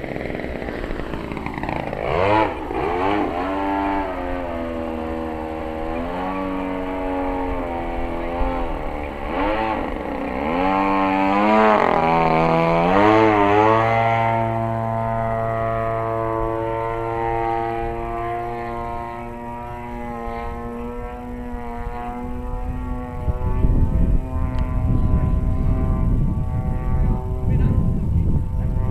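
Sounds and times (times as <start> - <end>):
model plane engine and propeller: 0.0 - 28.9.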